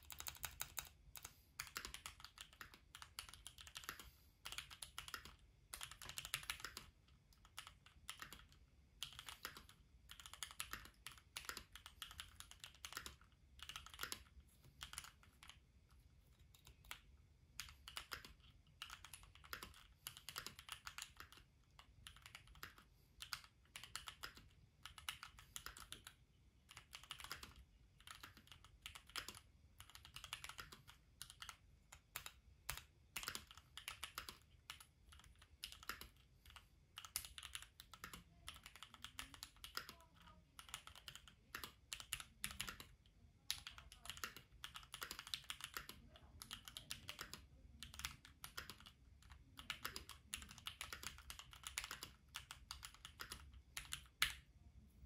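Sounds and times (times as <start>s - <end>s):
mechanical keyboard typing: 0.0s - 54.5s.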